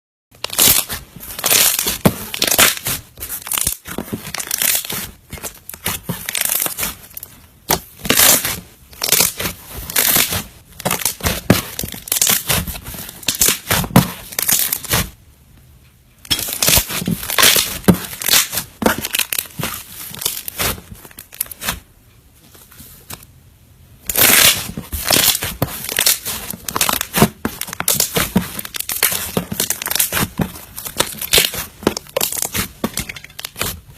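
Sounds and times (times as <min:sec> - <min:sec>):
slime crackling and popping: 0:00.4 - 0:15.2, 0:16.2 - 0:21.8, 0:24.0 - 0:33.9.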